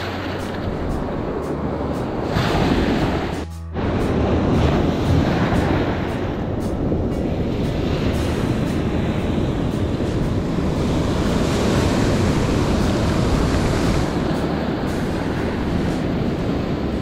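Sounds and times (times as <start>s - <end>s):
ocean surf breaking on beach: 0.0s - 17.0s
wind rumbling on microphone: 0.0s - 17.0s.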